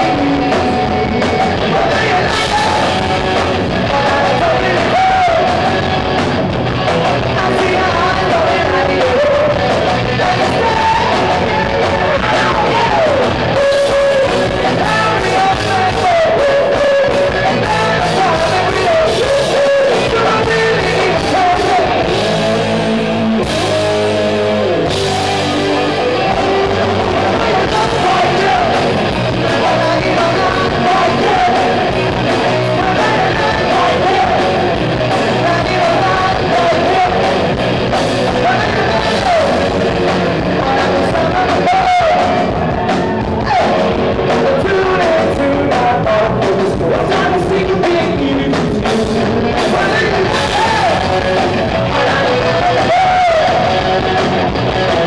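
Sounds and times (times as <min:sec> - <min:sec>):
distorted electric guitars: 0:00.0 - 0:55.0
drums: 0:00.0 - 0:55.0
lead singer singing: 0:00.0 - 0:55.0.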